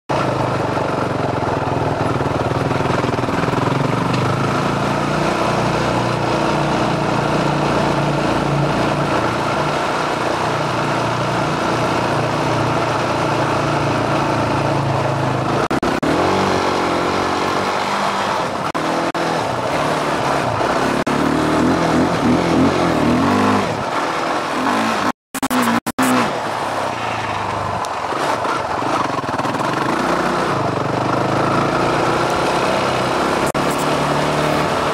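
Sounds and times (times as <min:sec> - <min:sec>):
quad engine revving: 0:00.1 - 0:26.6, 0:28.0 - 0:34.9.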